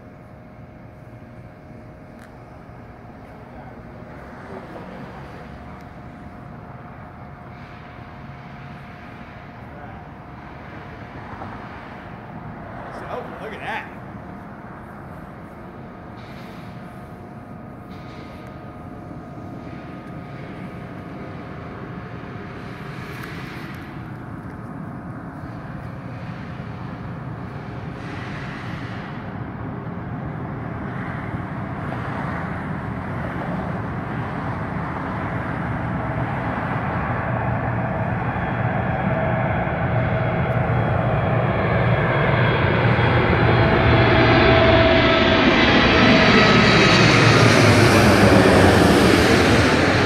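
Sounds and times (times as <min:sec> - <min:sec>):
jet engine whine: 0:00.0 - 0:50.0
jet engines rushing: 0:00.0 - 0:50.0.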